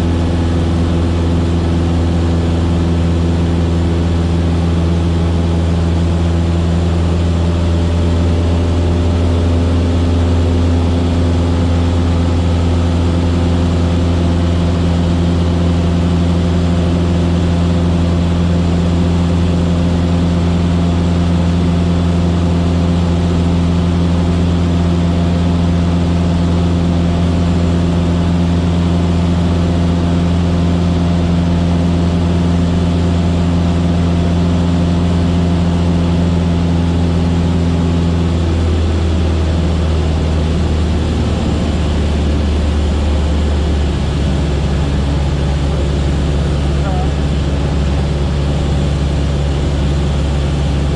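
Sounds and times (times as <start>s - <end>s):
small plane engine droning in flight: 0.0s - 50.9s.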